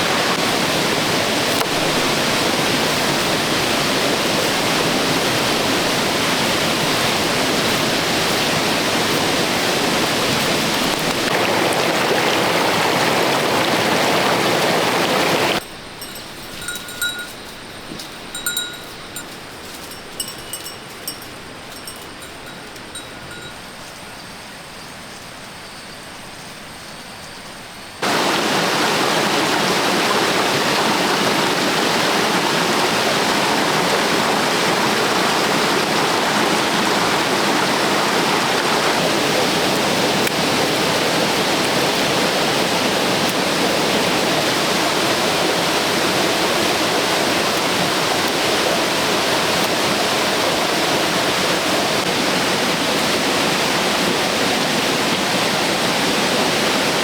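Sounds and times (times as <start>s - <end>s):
rushing water: 0.0s - 24.0s, 28.0s - 57.0s
outdoor ambience: 0.0s - 57.0s.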